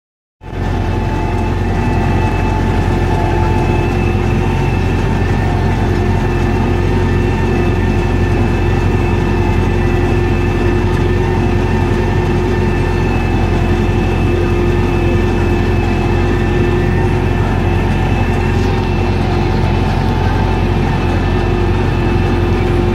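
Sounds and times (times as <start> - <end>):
steady whine: 0.4 - 22.9
tractor diesel engine droning: 0.4 - 22.9.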